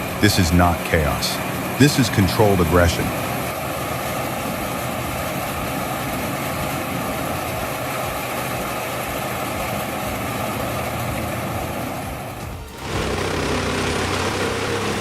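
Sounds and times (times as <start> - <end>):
faint steady whine: 0.0 - 15.0
wood chipper engine running: 0.0 - 15.0.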